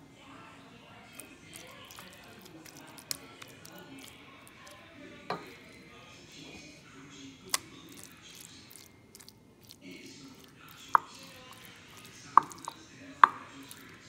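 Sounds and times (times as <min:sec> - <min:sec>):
wet squishing of sauce: 0:00.9 - 0:05.7, 0:07.3 - 0:14.0.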